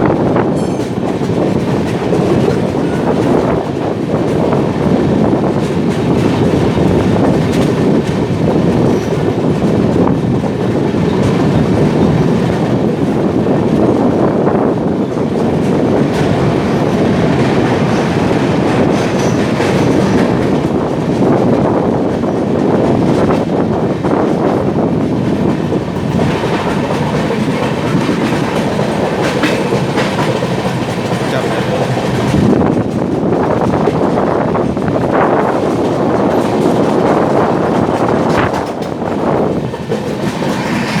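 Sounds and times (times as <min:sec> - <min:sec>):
train passing rumble: 0:00.0 - 0:41.0
wheels clattering over rail joints: 0:00.3 - 0:41.0.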